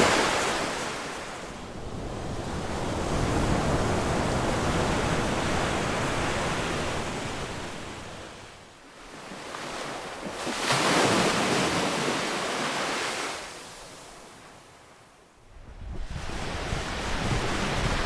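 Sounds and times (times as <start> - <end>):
ocean waves breaking on shore: 0.0 - 15.2, 15.9 - 18.0.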